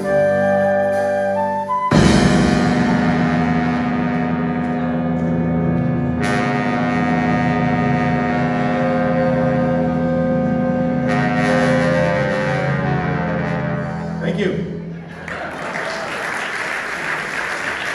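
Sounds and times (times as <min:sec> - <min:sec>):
jazz ensemble sustained chord: 0:00.0 - 0:15.2.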